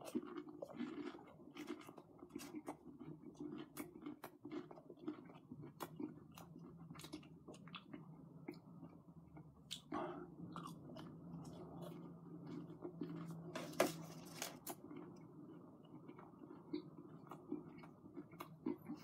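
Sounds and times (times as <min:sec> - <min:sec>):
faint low hum: 0:00.0 - 0:19.0
person chewing crunchy food: 0:00.0 - 0:19.0.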